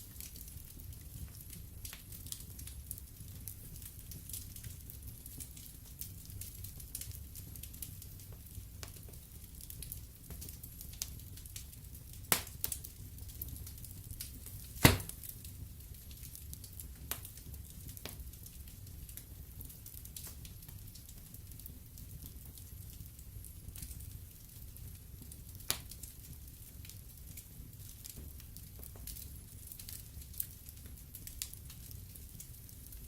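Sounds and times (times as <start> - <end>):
wood fire crackling: 0.0 - 33.0
fire popping: 3.4 - 33.0.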